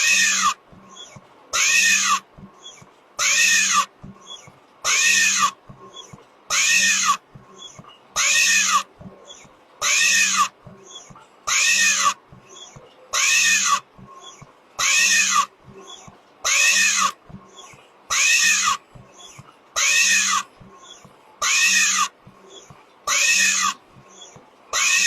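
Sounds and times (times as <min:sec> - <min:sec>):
factory machine hissing and squealing: 0:00.0 - 0:25.0.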